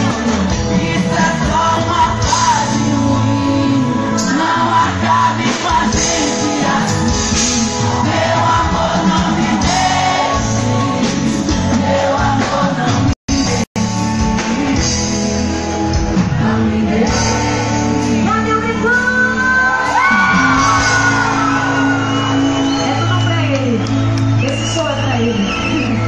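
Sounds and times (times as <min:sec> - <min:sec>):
person singing: 0:00.0 - 0:22.8
loud live stage music: 0:00.0 - 0:26.0.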